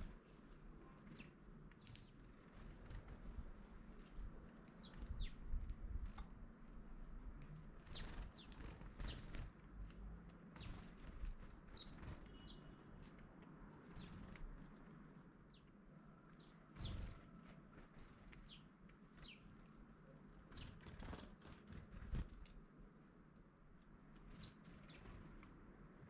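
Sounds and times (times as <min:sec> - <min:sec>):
small birds chirping: 0:00.0 - 0:06.4, 0:07.4 - 0:22.6, 0:23.9 - 0:25.5.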